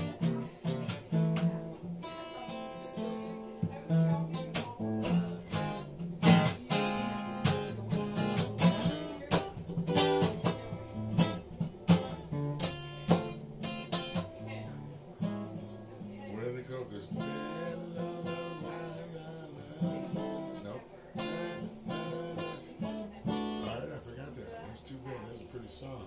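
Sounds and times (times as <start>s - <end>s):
acoustic guitar picking and strumming: 0.0s - 26.0s.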